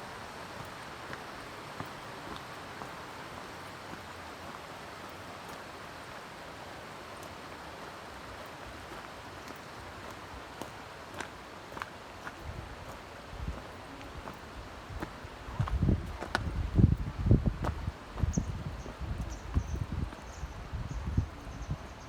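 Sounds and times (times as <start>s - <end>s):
stream water rushing: 0.0s - 18.3s.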